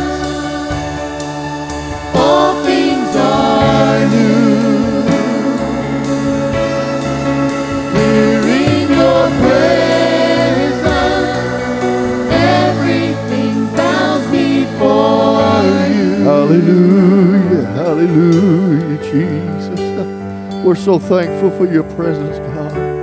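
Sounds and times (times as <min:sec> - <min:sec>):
voices singing with vibrato: 0:00.0 - 0:20.0
band playing held chords: 0:00.0 - 0:23.0.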